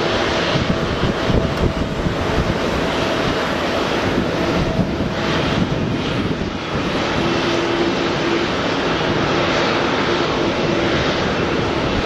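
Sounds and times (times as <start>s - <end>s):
jet engines taxiing: 0.0s - 12.0s.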